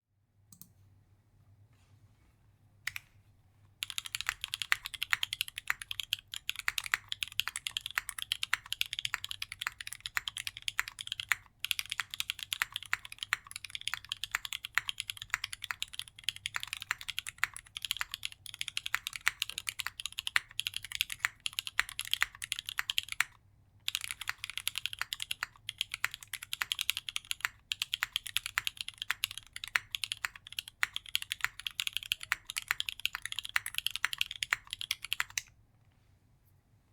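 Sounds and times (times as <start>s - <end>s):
fast mechanical keyboard typing: 3.8s - 35.5s.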